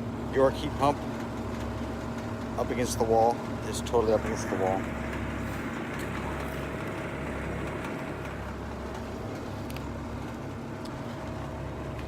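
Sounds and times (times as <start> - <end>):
air conditioner units humming: 0.0 - 12.0.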